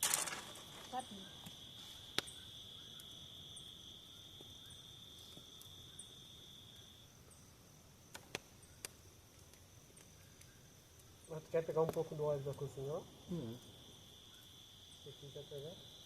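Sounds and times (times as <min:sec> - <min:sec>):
crickets trilling: 0:00.0 - 0:16.0
higher insect trill: 0:00.0 - 0:16.0.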